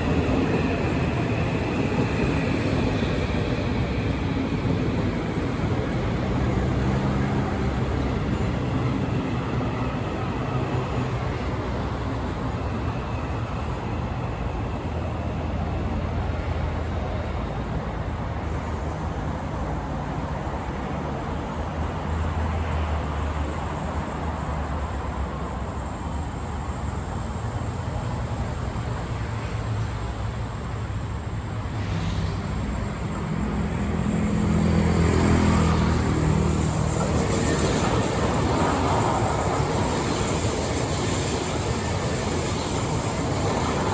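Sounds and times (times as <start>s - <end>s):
electric train rumble and hum: 0.0s - 43.9s.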